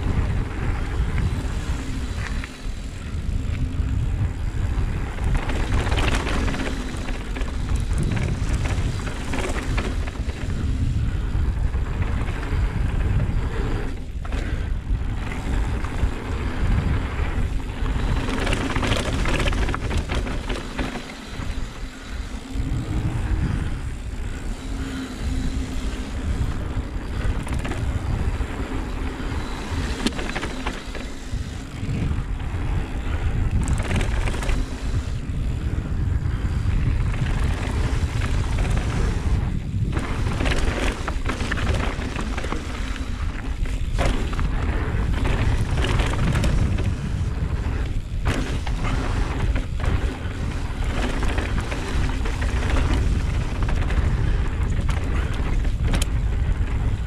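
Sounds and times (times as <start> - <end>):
bike rattling: 0.0 - 57.0
bike tyres on dirt trail: 0.0 - 57.0
wind rumble on microphone: 0.0 - 57.0.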